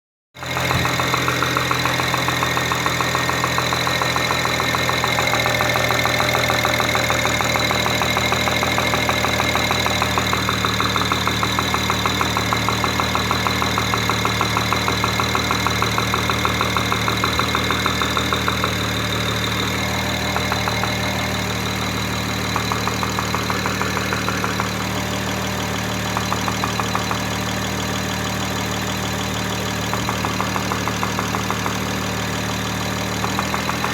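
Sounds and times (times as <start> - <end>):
engine idling: 0.4 - 33.9
rapid engine cylinder knock: 0.4 - 33.9.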